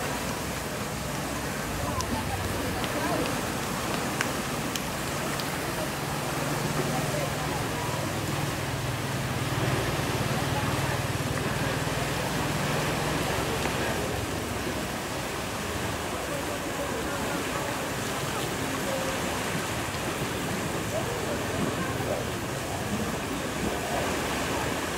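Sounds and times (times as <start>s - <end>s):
turbulent water rushing: 0.0s - 24.9s.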